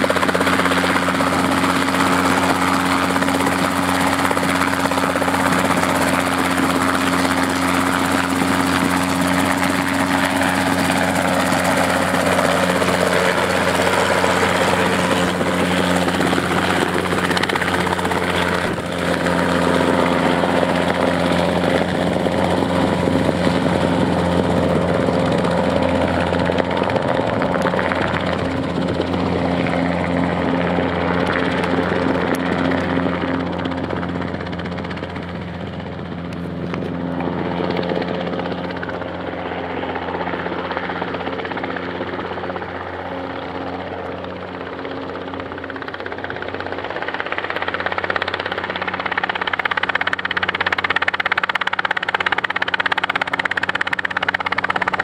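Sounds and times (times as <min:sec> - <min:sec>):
helicopter hovering: 0:00.0 - 0:55.0.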